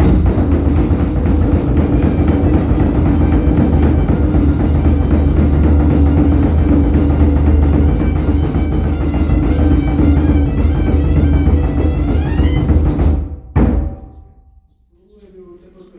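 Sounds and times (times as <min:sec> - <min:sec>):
music with heavy drumming: 0:00.0 - 0:14.4
drum stroke ringing out: 0:00.0 - 0:14.9.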